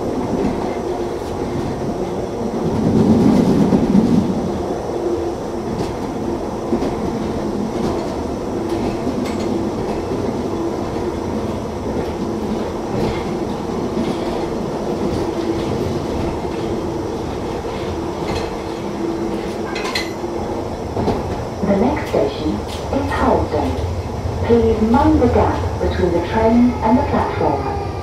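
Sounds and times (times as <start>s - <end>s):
train running with constant hum: 0.0s - 28.0s.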